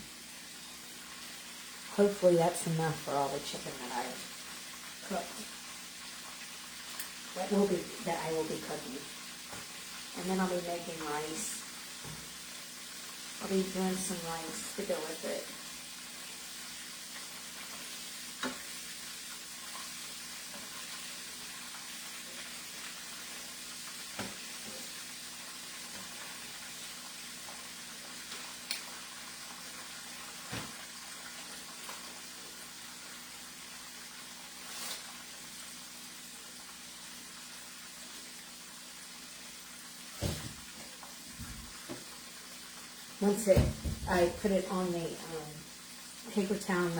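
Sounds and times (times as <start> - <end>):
chicken frying in hot oil: 0.0 - 46.9.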